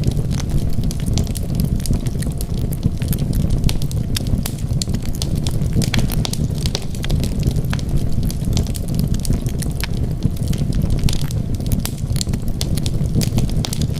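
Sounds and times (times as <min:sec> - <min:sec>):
burning wood crackling and popping: 0:00.0 - 0:13.9
low rumble of flames: 0:00.0 - 0:13.9.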